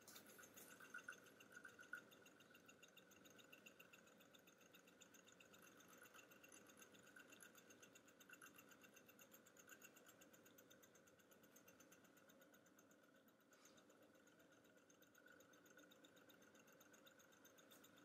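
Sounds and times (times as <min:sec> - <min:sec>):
stirling engine ticking rattle: 0:00.0 - 0:18.0.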